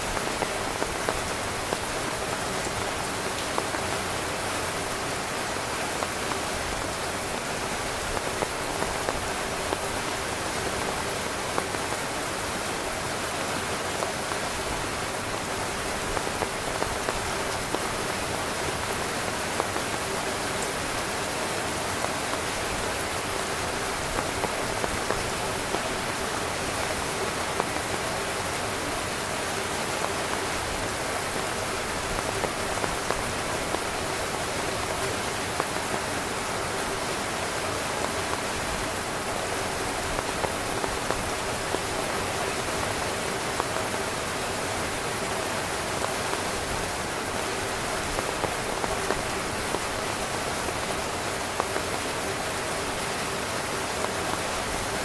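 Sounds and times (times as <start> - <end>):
heavy rain on a tent: 0.0 - 55.0.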